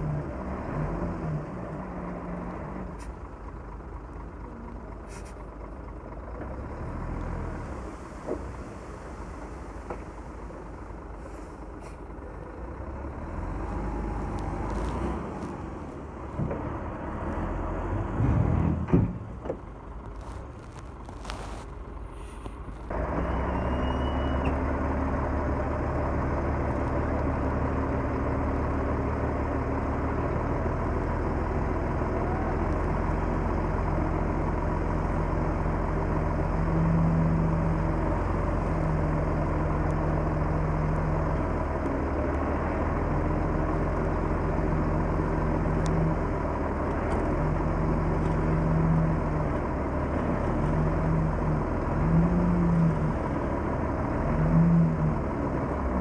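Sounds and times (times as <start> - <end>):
bulldozer diesel engine rumbling: 0.0 - 56.0.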